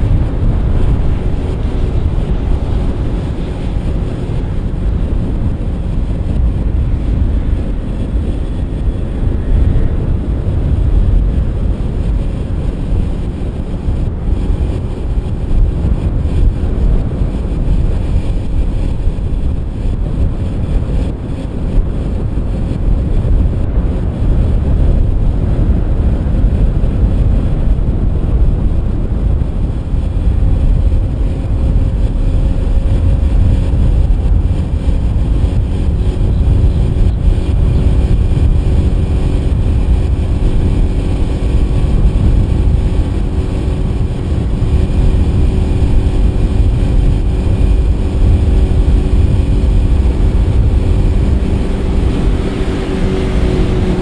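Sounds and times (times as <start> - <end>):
outboard engine drone: 0.0 - 54.0
rush of wind and water: 0.0 - 54.0.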